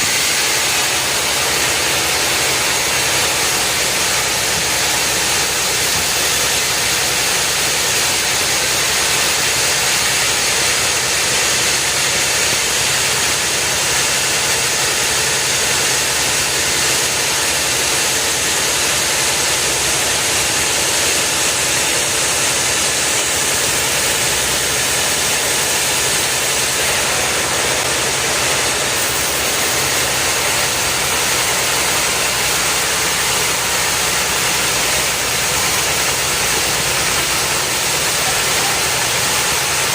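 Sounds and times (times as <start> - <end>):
machinery hissing drone: 0.0 - 39.9.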